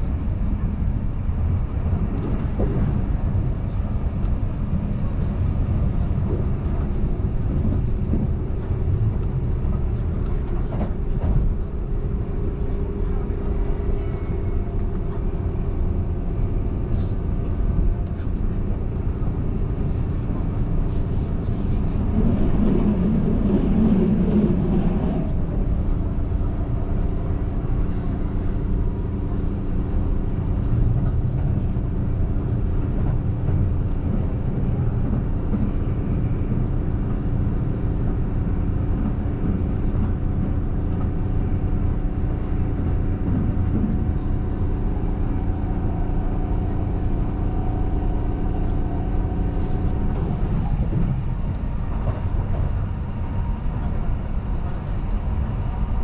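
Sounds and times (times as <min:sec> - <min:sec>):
train running at speed: 0:00.0 - 0:56.0.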